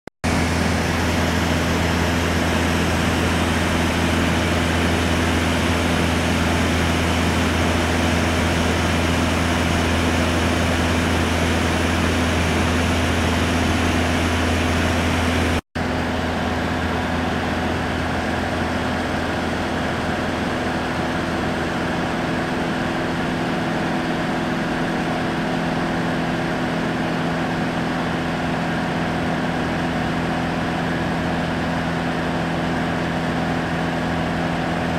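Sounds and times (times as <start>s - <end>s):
aircraft engine drone in cabin: 0.2s - 34.9s.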